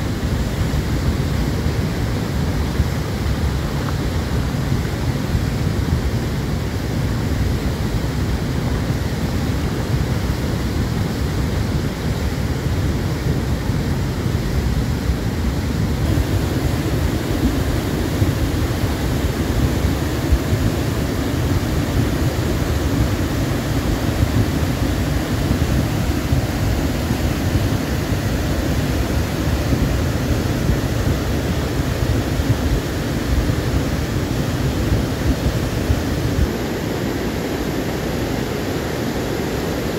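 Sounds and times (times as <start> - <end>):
river torrent rushing: 0.0 - 39.9.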